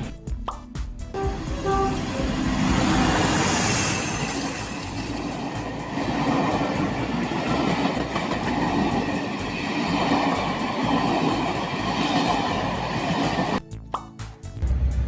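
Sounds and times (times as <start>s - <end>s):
train wheels rumbling: 1.2s - 13.6s.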